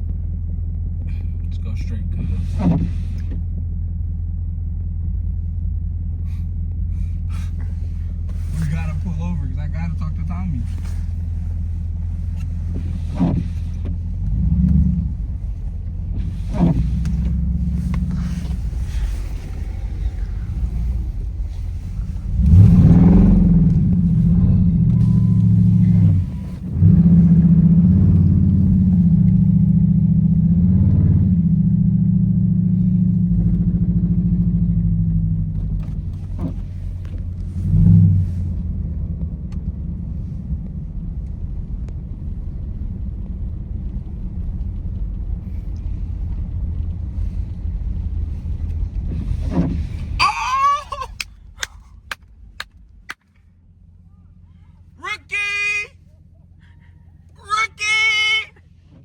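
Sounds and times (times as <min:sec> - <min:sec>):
car engine revving: 0:00.0 - 0:50.2.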